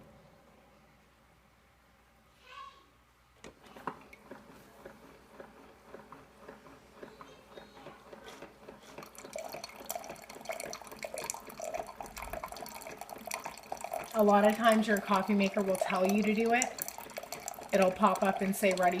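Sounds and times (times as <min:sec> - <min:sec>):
coffee maker dripping and pouring: 0:03.5 - 0:19.0.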